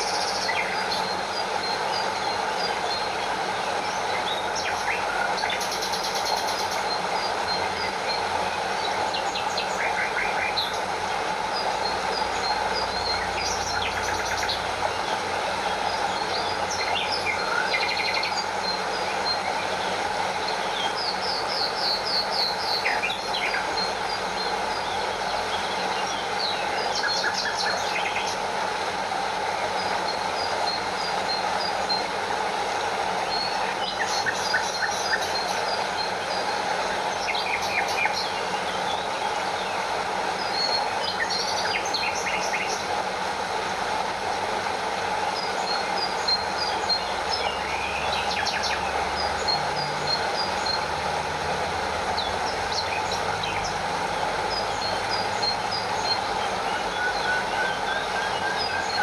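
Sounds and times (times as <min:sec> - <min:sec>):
stream with small waterfall: 0:00.0 - 0:59.0.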